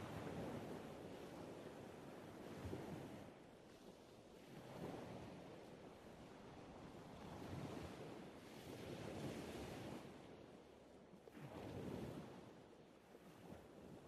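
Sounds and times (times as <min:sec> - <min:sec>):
faint ocean surf: 0:00.0 - 0:13.9.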